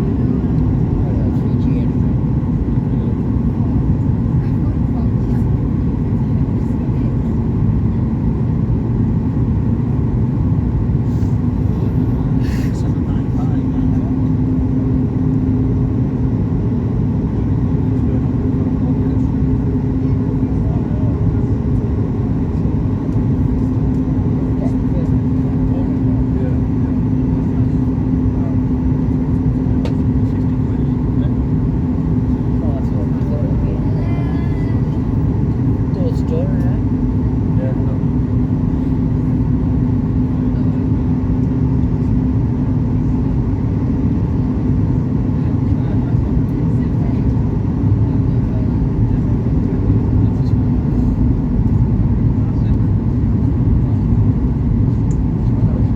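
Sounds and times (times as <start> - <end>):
airplane cabin engine rumble: 0.0 - 55.9
steady cabin hum: 0.0 - 55.9.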